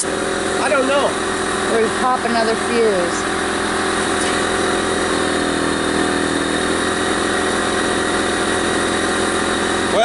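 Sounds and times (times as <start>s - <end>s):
air compressor running: 0.0s - 10.0s.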